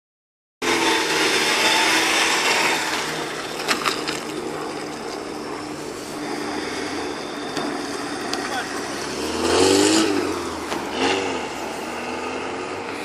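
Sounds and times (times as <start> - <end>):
car engine revving: 0.6 - 13.0.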